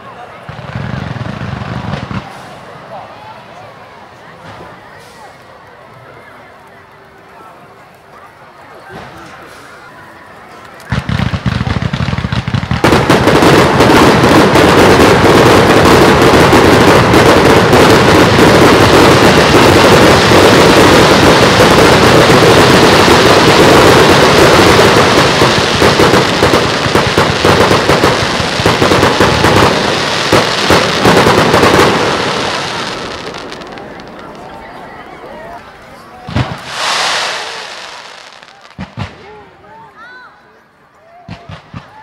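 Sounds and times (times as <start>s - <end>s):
fireworks bangs and crackling: 0.0s - 39.9s, 41.3s - 42.0s.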